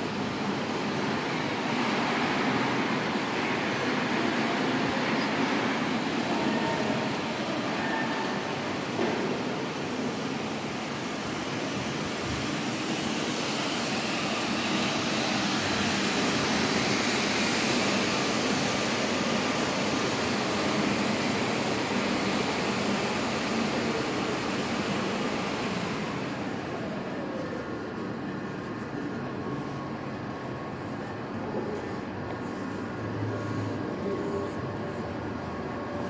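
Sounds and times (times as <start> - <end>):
faint high whine: 0.0 - 36.0.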